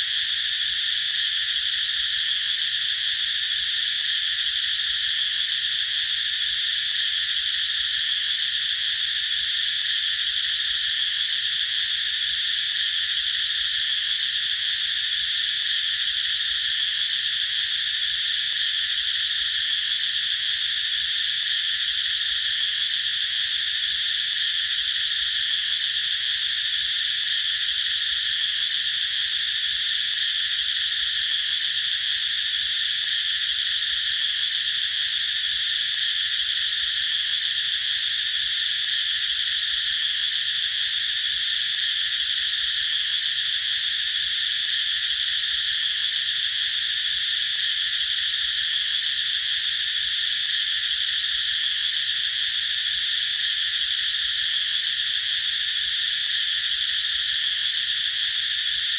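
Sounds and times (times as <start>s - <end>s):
cicadas buzzing: 0.0s - 58.9s.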